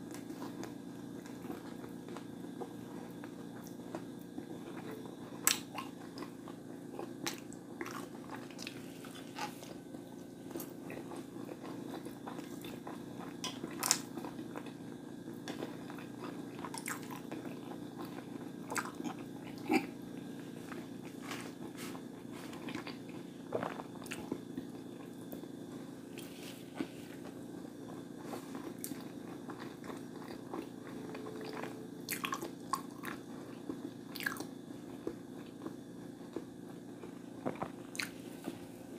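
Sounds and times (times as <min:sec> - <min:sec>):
crunchy chewing: 0:00.0 - 0:38.9
steady low hum: 0:00.0 - 0:38.9.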